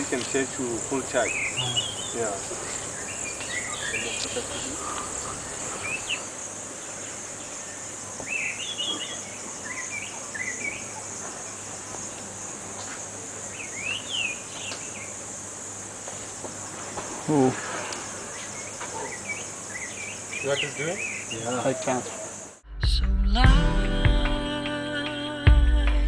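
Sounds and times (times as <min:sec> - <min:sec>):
birds chirping: 0:00.0 - 0:22.6
insect chorus: 0:00.0 - 0:22.6.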